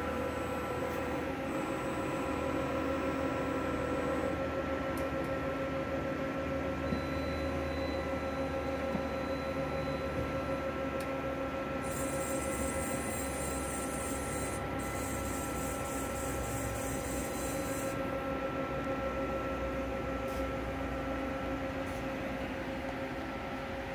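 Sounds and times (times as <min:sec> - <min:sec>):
machine humming with whining tones: 0:00.0 - 0:23.9.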